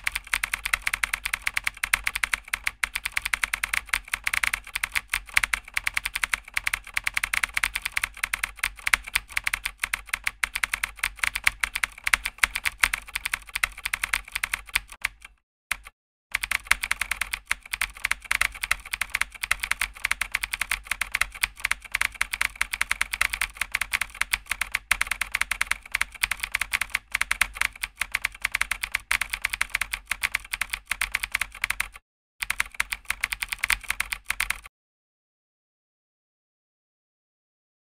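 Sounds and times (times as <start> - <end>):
keyboard typing clicks: 0.0 - 34.7.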